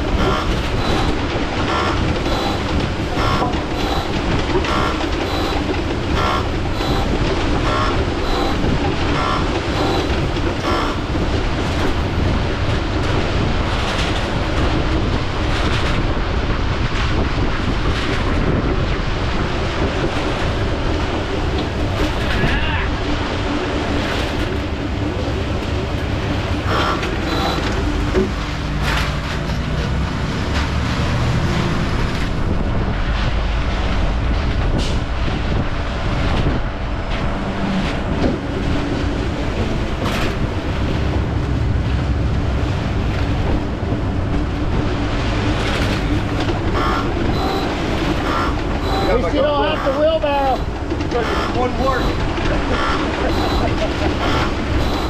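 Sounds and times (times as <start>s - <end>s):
sharp knocks and clanks: 0.0s - 14.7s, 25.6s - 55.0s.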